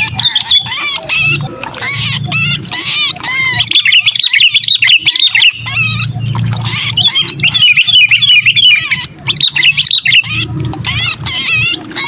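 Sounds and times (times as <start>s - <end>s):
bird harsh distress calls: 0.0s - 12.0s.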